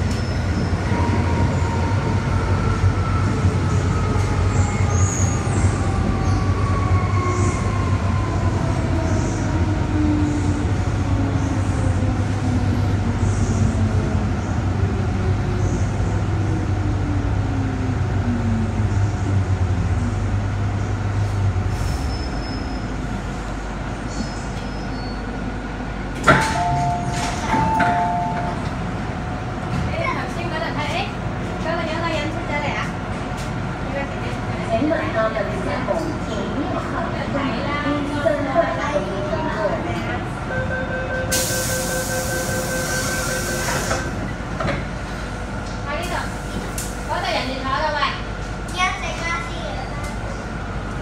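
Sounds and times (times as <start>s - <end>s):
train running noise: 0.0s - 51.0s.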